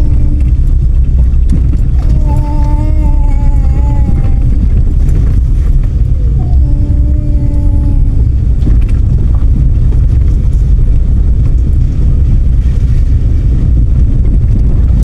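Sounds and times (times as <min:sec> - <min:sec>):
car interior engine and road noise: 0:00.0 - 0:15.0.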